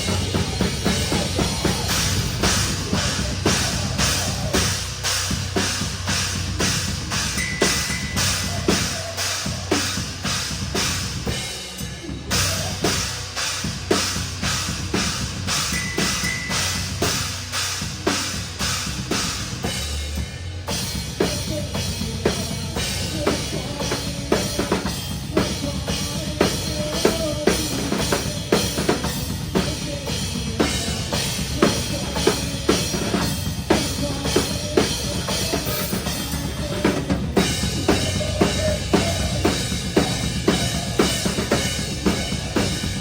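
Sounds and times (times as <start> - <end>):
drum kit fast rhythm: 0.0 - 43.0
metal band playing: 0.0 - 43.0.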